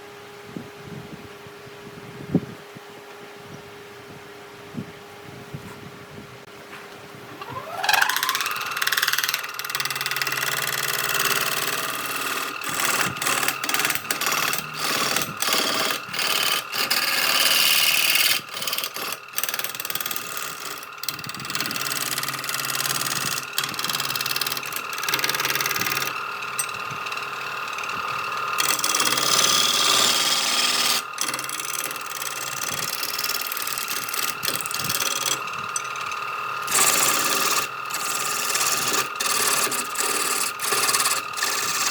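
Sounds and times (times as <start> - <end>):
power tool motor whining: 7.3 - 41.9.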